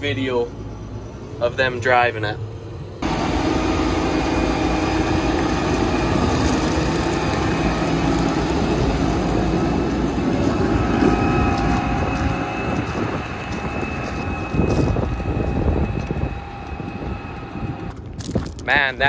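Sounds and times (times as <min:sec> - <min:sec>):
thin high whine: 0:00.0 - 0:17.9
tracked tractor driving on gravel: 0:03.0 - 0:19.0.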